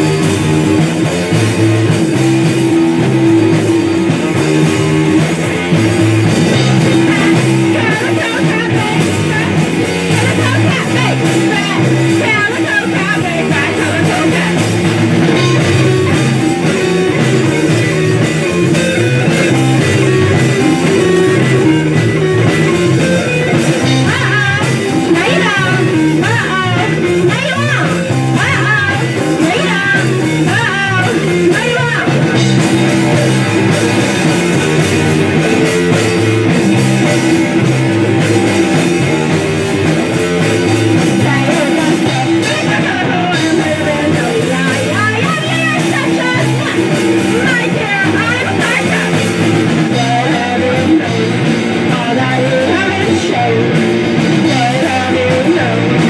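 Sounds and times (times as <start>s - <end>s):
bending high guitar notes: 0.0s - 56.0s
rock band playing: 0.0s - 56.0s.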